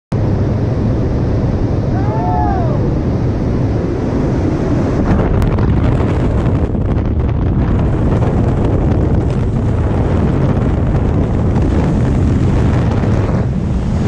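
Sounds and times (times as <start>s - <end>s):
wind buffeting microphone: 0.1s - 14.0s.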